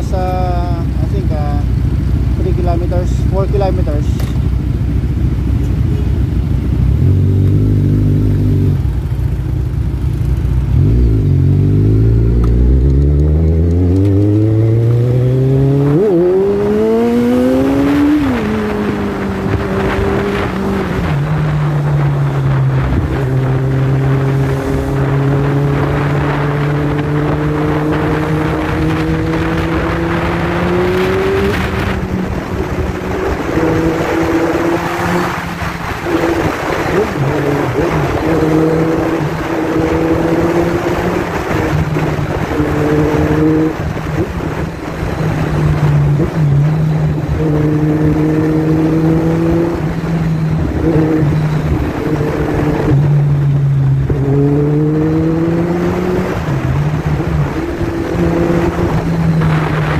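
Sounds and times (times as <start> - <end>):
motorcycle engine idling and accelerating: 0.0 - 59.9
wind rushing over microphone: 10.7 - 59.9.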